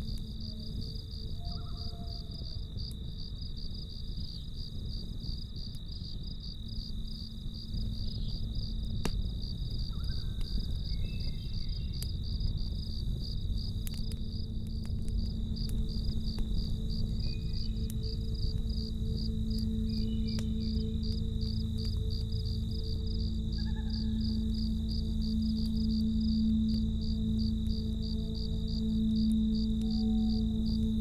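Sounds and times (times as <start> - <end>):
crickets chirping: 0.0 - 31.0
fire crackling pops: 0.0 - 31.0
campfire flames rushing: 2.2 - 29.4.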